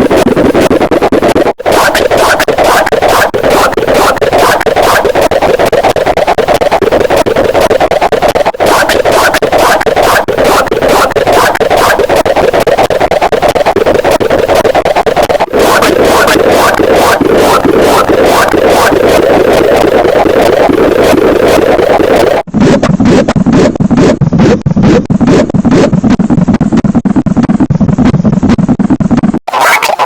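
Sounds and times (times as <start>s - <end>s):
distorted stomach growling: 0.0s - 30.0s.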